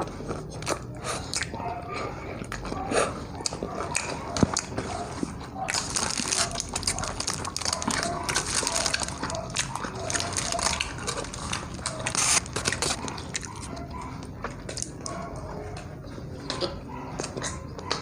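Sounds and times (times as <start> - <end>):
chewing and wet lip-smacking: 0.0 - 18.0.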